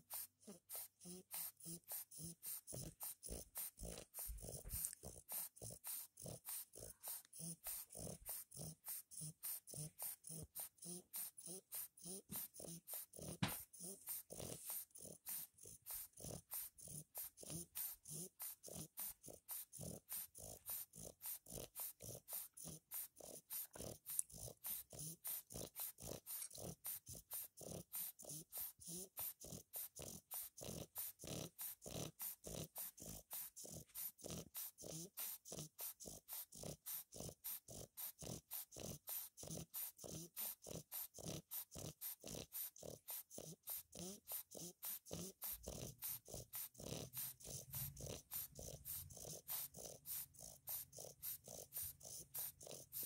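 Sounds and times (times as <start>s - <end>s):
puppy breathing fast and noisily: 0.0s - 53.0s.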